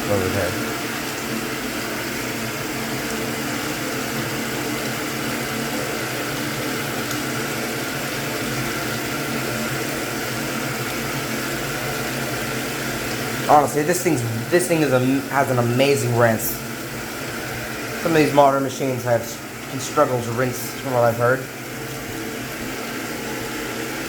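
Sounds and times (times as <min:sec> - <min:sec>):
washing machine hum: 0:00.0 - 0:24.0
water rushing into washing machine: 0:00.0 - 0:24.0.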